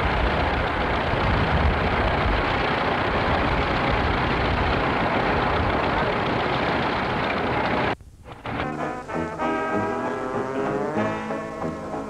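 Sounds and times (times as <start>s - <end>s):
tractor engines running: 0.0s - 12.0s.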